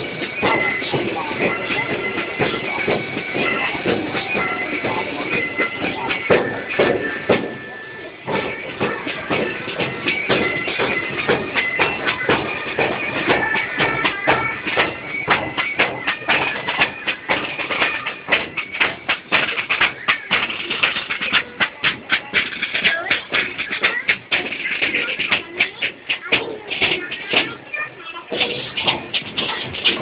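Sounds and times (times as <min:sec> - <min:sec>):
fast loud drumming: 0:00.0 - 0:30.0
high held melody: 0:00.0 - 0:30.0.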